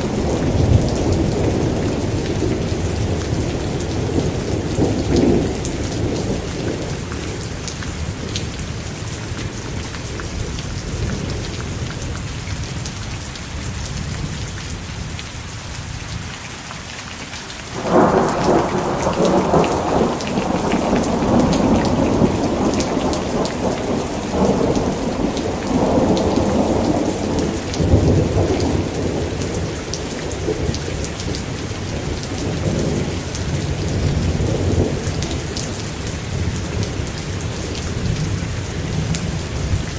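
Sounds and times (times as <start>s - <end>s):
thunder rumbling: 0.0s - 12.1s, 17.7s - 39.9s
steady rain: 0.0s - 39.9s.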